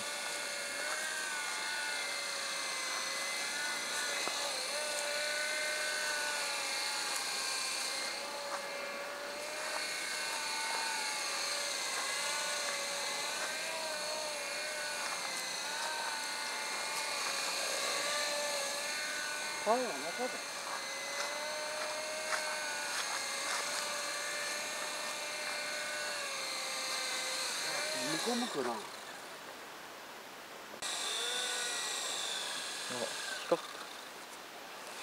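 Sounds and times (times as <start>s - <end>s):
model helicopter whine: 0.0s - 29.6s, 30.8s - 35.0s.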